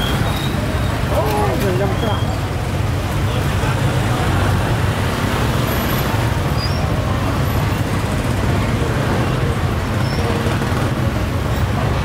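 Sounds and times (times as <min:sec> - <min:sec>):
low rumble of street traffic: 0:00.0 - 0:12.0
market background noise: 0:00.0 - 0:12.0.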